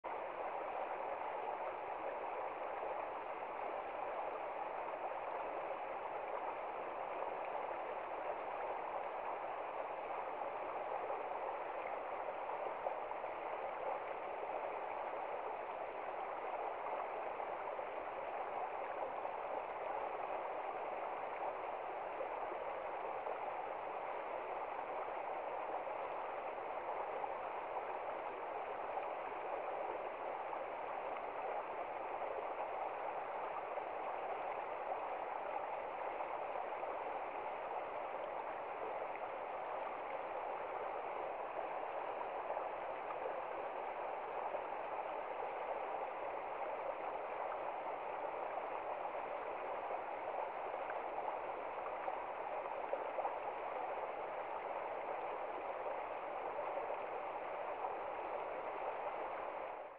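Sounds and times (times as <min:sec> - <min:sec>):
stream rushing over stones: 0:00.1 - 0:59.9.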